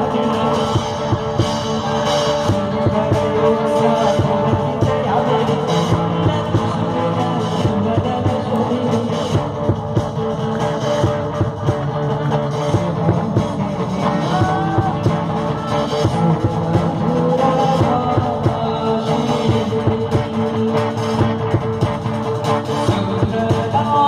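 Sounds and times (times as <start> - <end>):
drum kit beat: 0.0 - 24.0
electric guitars: 0.0 - 24.0
live rock band: 0.0 - 24.0.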